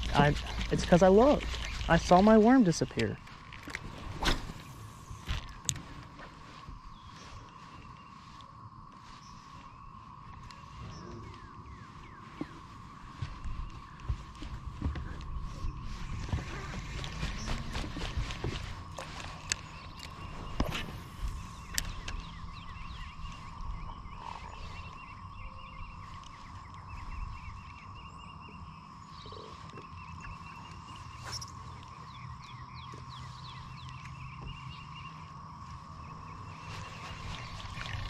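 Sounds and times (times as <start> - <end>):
frogs chirping: 0.0 - 38.0.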